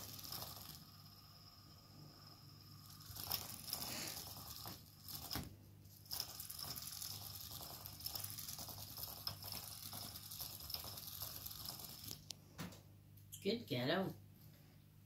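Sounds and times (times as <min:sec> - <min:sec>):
toy motor whirring and rattling: 0:00.0 - 0:12.3.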